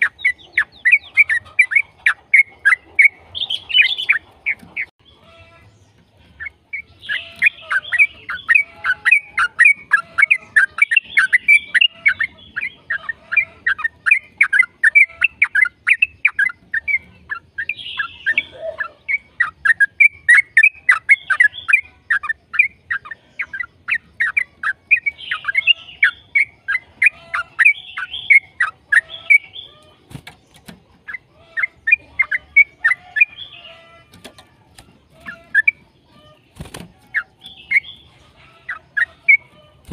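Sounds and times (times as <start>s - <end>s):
bird singing rapid chattering song: 0.0s - 39.9s.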